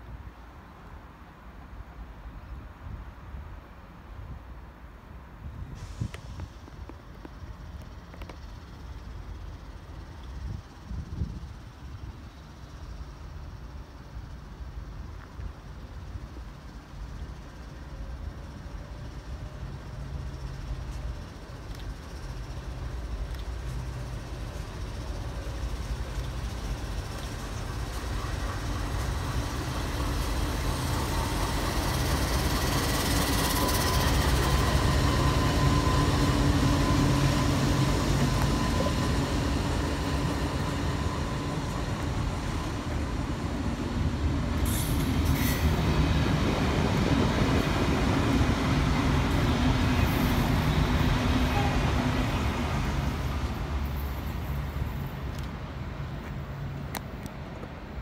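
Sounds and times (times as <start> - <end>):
diesel locomotive engine drone: 0.0 - 58.0
train wheels rumbling on track: 0.0 - 58.0.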